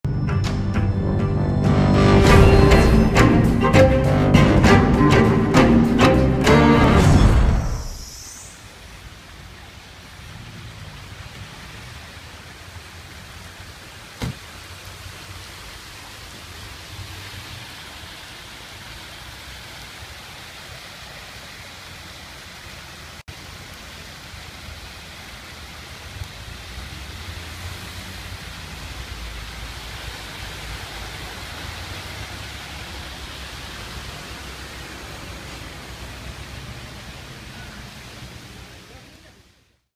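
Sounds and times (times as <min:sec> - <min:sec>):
rainwater pouring and splashing: 0:02.1 - 0:39.8.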